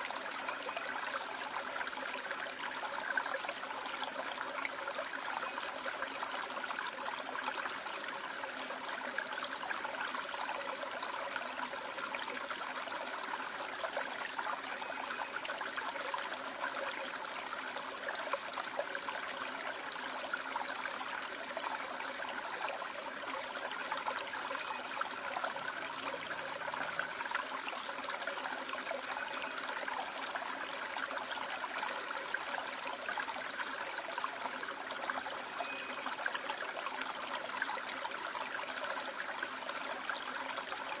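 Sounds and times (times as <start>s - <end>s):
stream water running over rocks: 0.0s - 41.0s.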